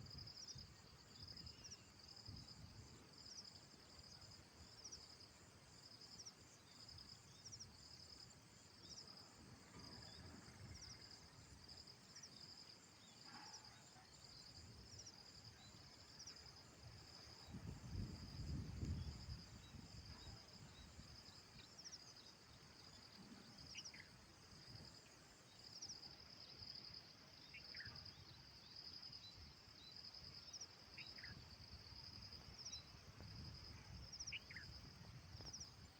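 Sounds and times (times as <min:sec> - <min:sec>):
insects chirping trill: 0:00.0 - 0:35.9.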